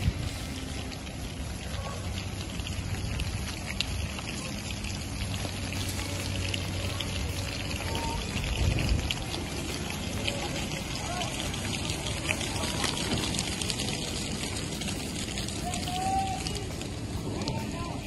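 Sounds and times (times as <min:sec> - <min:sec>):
wind and rain hiss: 0:00.0 - 0:18.0.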